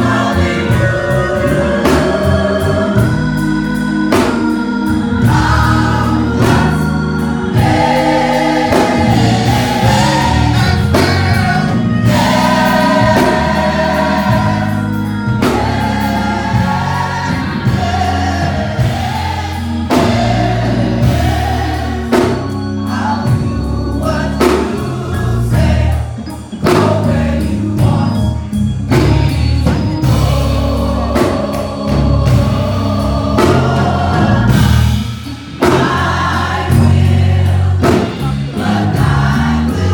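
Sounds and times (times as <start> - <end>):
bass: 0.0 - 39.9
drums: 0.0 - 39.9
gospel choir singing in harmony: 0.0 - 39.9
organ: 0.0 - 39.9.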